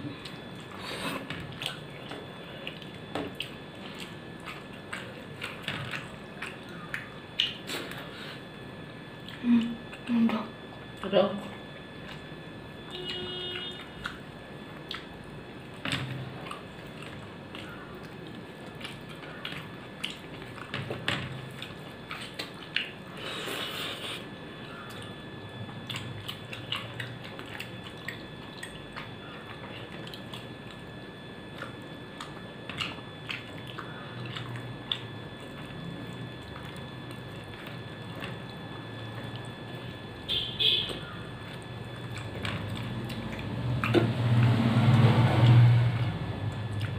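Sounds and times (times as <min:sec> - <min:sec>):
chewing and wet mouth sounds: 0:00.0 - 0:46.9.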